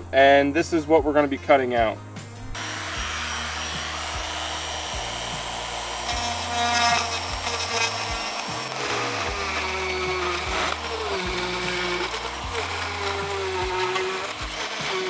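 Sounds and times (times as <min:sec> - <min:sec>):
background music: 0:00.0 - 0:15.0
spiral saw cutting: 0:02.5 - 0:15.0.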